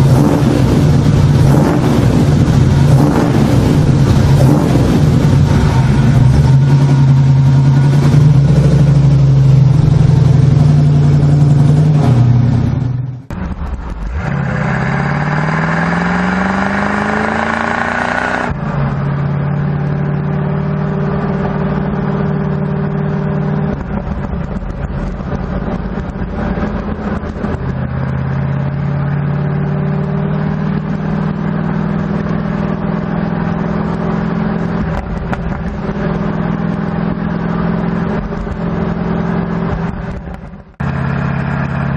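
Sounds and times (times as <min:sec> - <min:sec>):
car accelerating: 0:00.0 - 0:41.9
car engine running: 0:00.0 - 0:41.9.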